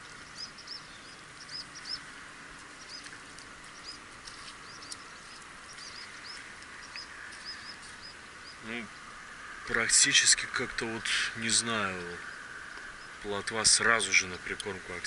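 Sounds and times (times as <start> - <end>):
faint steady hiss: 0.0 - 15.0
small birds chirping: 0.0 - 15.0.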